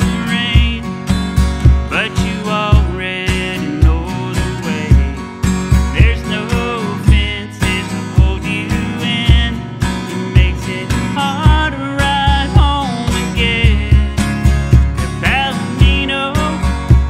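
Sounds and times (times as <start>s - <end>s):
man singing: 0.0s - 17.0s
steady low beat: 0.0s - 17.0s
strummed acoustic guitars: 0.0s - 17.0s.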